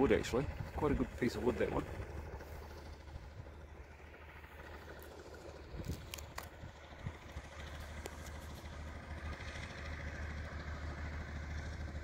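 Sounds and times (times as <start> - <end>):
distant truck engine: 0.0 - 12.0.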